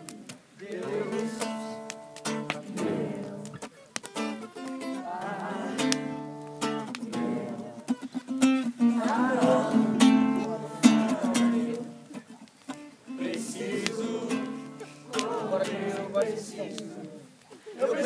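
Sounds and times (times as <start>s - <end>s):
voices singing along: 0.0s - 8.1s, 8.7s - 18.0s
acoustic guitar playing: 0.0s - 17.3s.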